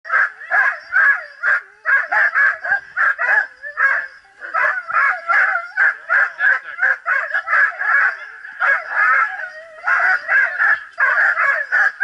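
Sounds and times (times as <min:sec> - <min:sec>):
dog barking in high-pitched yelps: 0:00.1 - 0:12.0.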